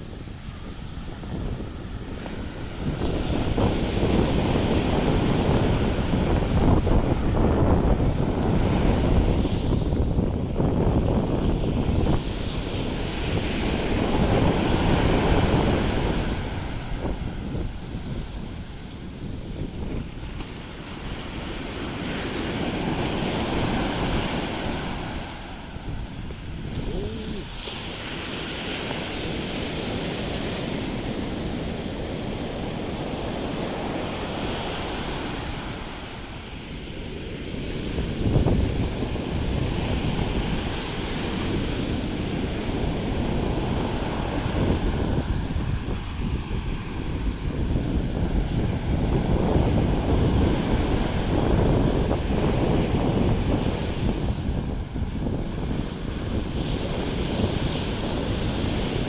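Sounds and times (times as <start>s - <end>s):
sea waves washing onto beach: 0.0s - 59.0s
wave crashing: 0.0s - 59.0s
wind buffeting microphone: 0.0s - 59.0s.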